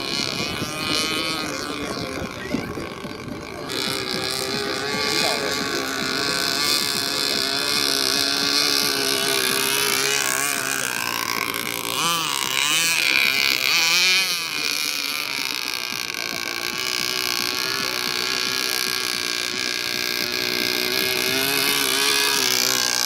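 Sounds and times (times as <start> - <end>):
model boat engine running: 0.0 - 23.0.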